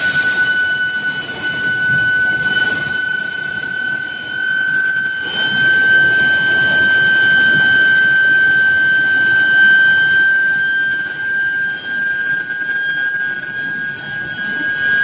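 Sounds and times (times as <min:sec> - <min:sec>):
high-pitched heater whine: 0:00.0 - 0:15.0.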